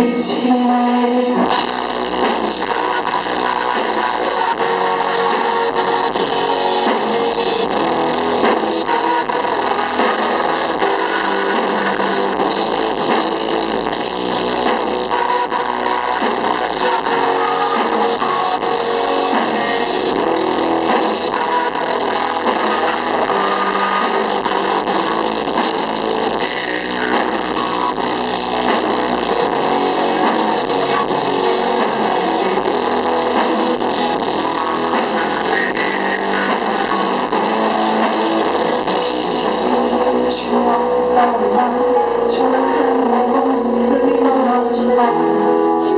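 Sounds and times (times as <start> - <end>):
rock band playing: 0.0 - 45.9.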